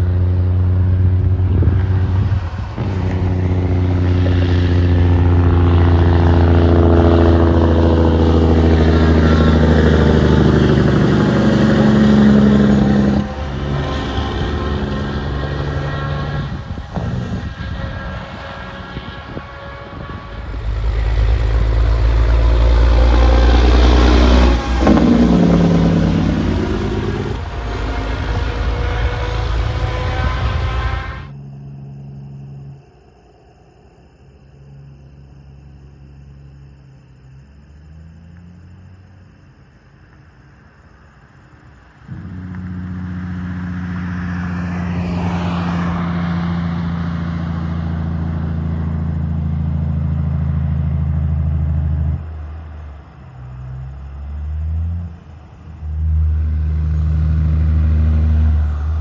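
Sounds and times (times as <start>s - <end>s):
semi truck accelerating past: 0.0s - 59.0s.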